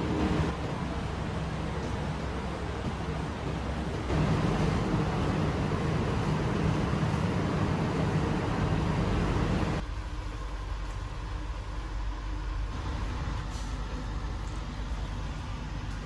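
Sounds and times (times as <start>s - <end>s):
diesel train rumbling: 0.0s - 16.0s
low hum inside train coach: 0.0s - 16.0s.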